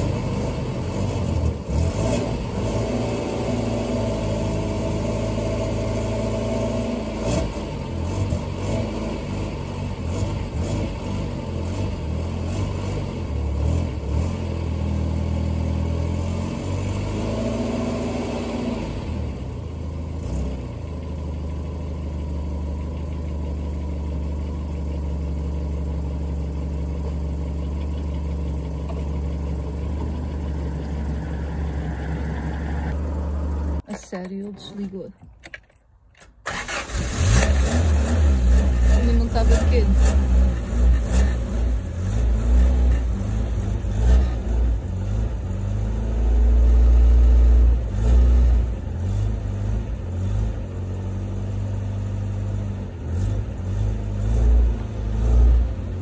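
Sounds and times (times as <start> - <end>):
car engine revving and idling: 0.0 - 33.8, 36.5 - 56.0.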